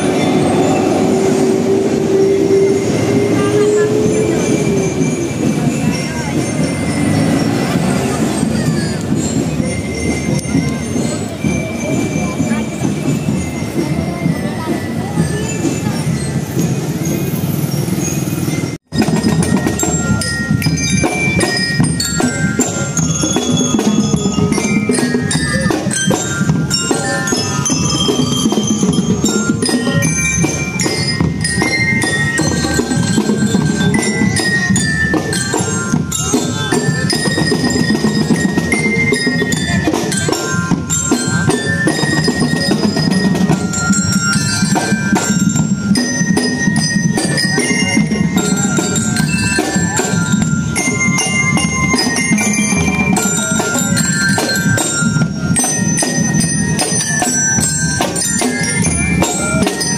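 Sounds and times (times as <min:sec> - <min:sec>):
bell lyre melody: 0:00.0 - 0:59.9.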